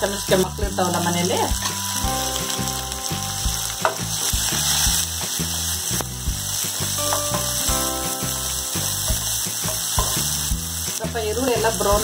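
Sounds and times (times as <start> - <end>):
low background music: 0.0 - 12.0
onion frying in oil: 0.0 - 12.0.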